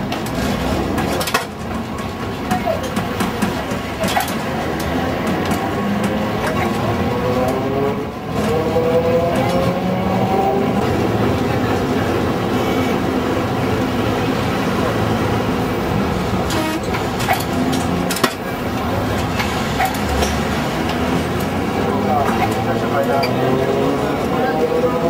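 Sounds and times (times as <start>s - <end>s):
electric tram rumbling on rails: 0.0s - 25.0s.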